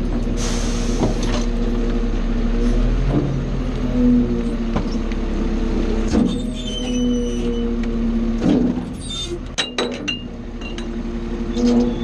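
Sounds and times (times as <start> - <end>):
garbage truck engine and hydraulics: 0.0 - 12.0.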